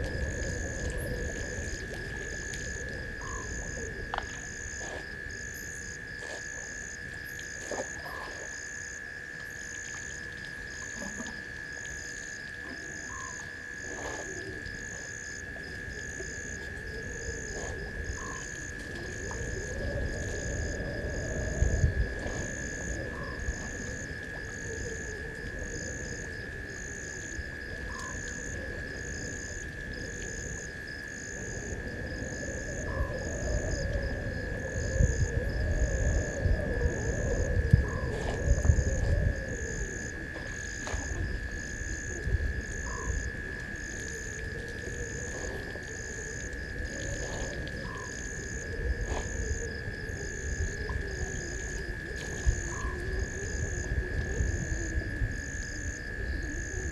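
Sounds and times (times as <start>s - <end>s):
low rumble and rustling branches: 0.0s - 9.6s, 13.6s - 56.4s
high-pitched insect drone: 0.0s - 56.9s.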